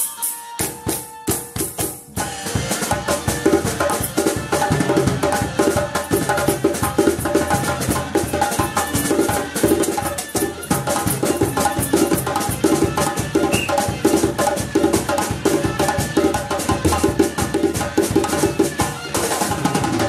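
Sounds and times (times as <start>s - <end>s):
drums: 0.0s - 20.0s
woody struck pitched instrument: 0.0s - 20.0s.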